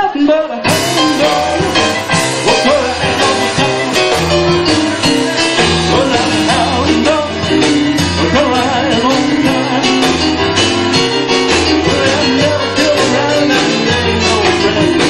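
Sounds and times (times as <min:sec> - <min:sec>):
rock and roll band playing: 0:00.6 - 0:15.0.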